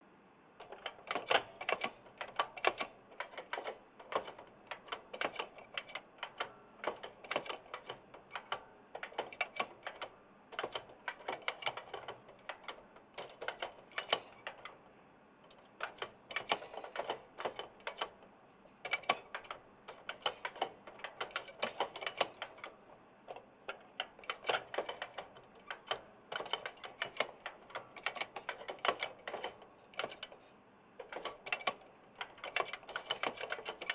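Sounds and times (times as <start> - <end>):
mechanical keyboard typing clicks: 0.6 - 14.8, 15.8 - 18.2, 18.8 - 22.8, 24.0 - 30.4, 31.0 - 33.9.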